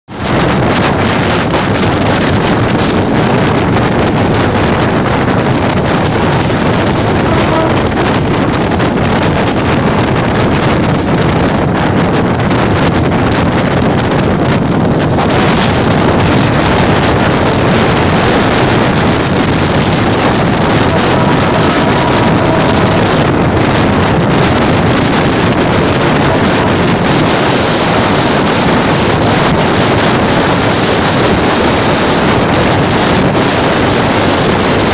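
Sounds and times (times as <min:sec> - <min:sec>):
diesel locomotive running: 0:00.1 - 0:34.9
wind rushing over microphone: 0:00.1 - 0:34.9.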